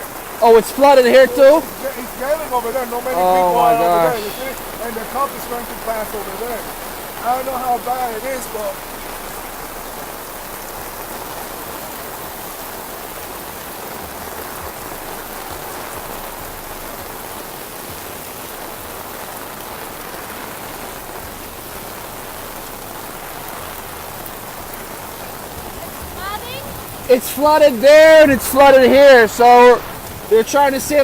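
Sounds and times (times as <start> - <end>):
heavy rain on hard surfaces: 0.0 - 31.0.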